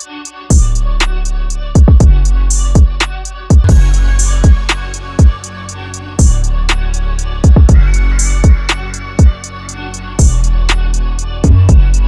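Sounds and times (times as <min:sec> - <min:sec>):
hi-hat ticks: 0:00.0 - 0:12.0
music with deep bass drum: 0:00.5 - 0:12.0.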